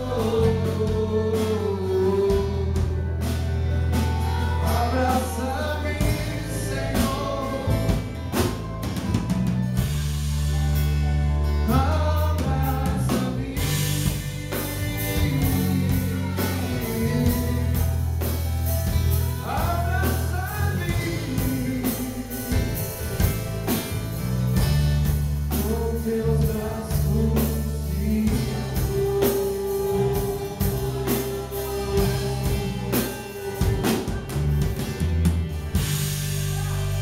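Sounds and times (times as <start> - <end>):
gospel singing into microphones: 0.0 - 9.9, 11.5 - 37.0
band with bass and drums: 0.0 - 37.0.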